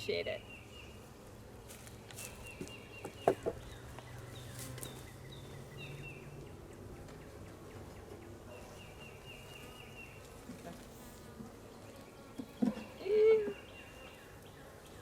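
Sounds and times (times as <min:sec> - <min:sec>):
honeybees buzzing: 0:00.3 - 0:15.0.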